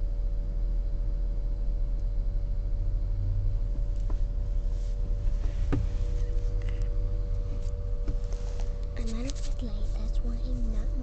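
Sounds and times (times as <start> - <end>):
car road and engine rumble: 0.0 - 11.0
faint steady hum: 0.0 - 11.0.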